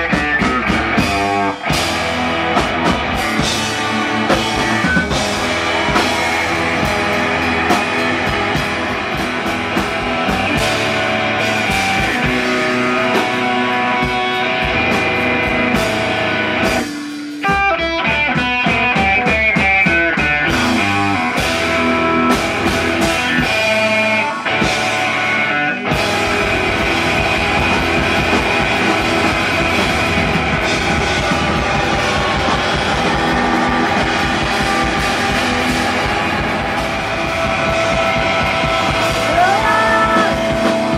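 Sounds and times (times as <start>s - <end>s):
distorted electric guitar: 0.0s - 40.9s
pounding drum kit: 0.0s - 40.9s
punk rock band playing: 0.0s - 40.9s.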